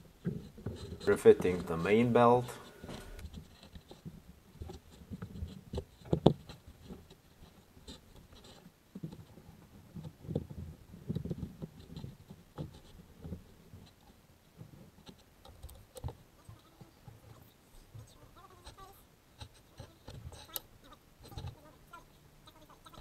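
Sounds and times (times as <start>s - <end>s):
rubber belt rubbing and scraping: 0.0s - 23.0s.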